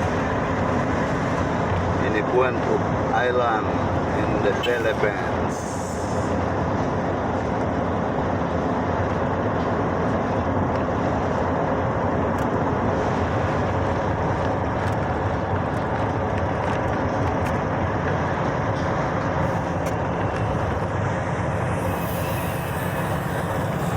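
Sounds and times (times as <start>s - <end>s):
truck engine and road noise: 0.0s - 23.9s.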